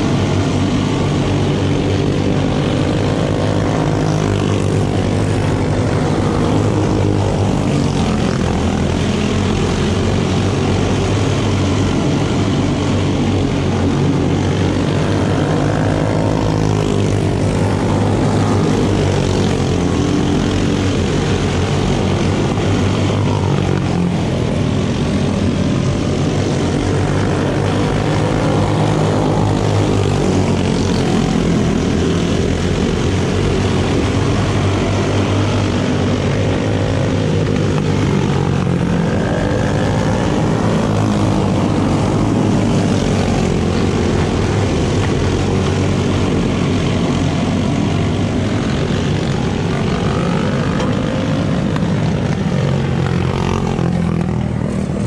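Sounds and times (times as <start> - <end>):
small engines buzzing drone: 0.0 - 55.0.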